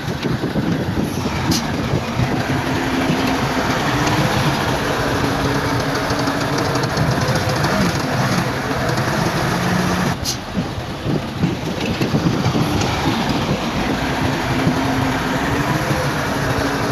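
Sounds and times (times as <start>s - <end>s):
bulldozer diesel engine running: 0.0s - 16.9s
steel tracks clattering: 0.0s - 16.9s.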